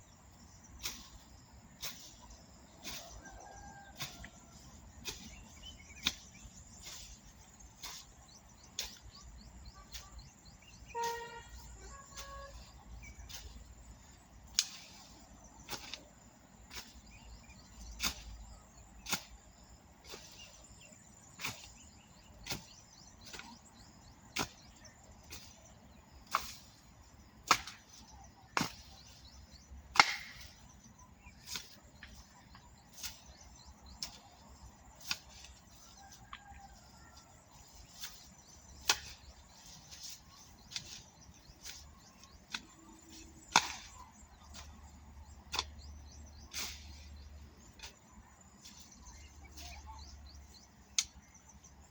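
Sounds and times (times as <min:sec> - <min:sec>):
hoe chopping into soil: 0:00.8 - 0:01.2, 0:01.8 - 0:02.2, 0:02.8 - 0:11.3, 0:12.1 - 0:20.6, 0:21.3 - 0:25.6, 0:26.2 - 0:26.8, 0:27.4 - 0:36.8, 0:37.6 - 0:49.8.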